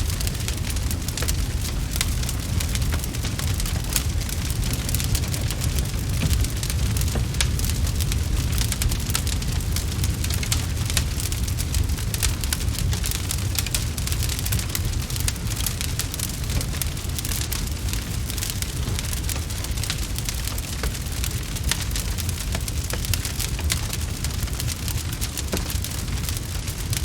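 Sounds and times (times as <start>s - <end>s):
fire crackling with sharp pops: 0.0s - 27.0s
low fire rumble: 0.0s - 27.0s.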